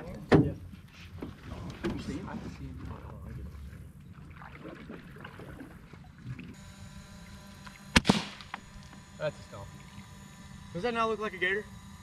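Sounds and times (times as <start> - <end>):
faint whine: 0.9 - 12.0
boat motor running: 1.2 - 12.0.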